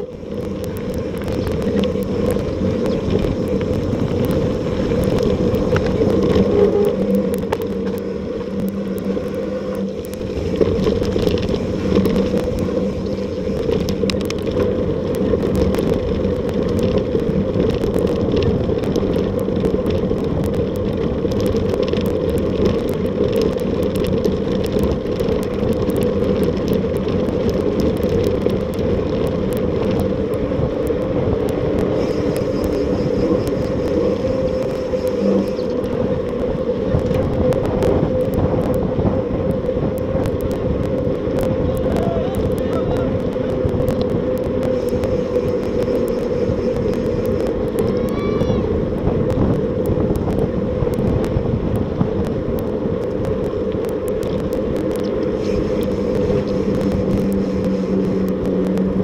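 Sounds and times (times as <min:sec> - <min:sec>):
bike rattling over cobblestones: 0:00.0 - 0:59.0
tyres rolling on dirt: 0:00.0 - 0:59.0
wind rushing over camera: 0:00.0 - 0:59.0.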